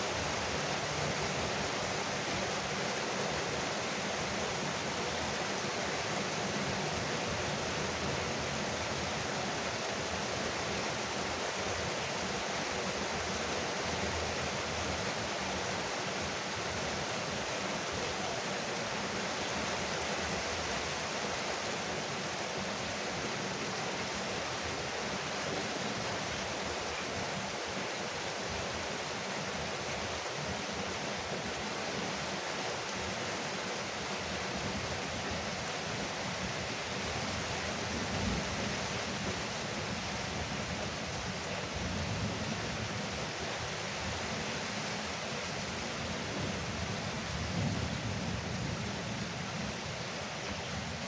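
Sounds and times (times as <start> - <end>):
rain on a porch roof: 0.0 - 51.0.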